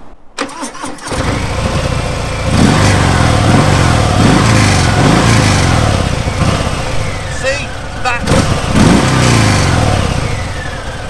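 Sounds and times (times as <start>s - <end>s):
motorcycle engine revving: 0.8s - 11.0s.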